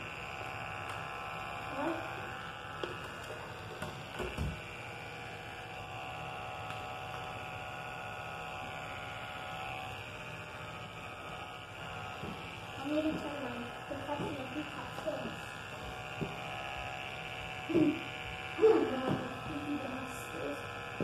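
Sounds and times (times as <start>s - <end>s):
electric clippers humming: 0.0s - 21.0s.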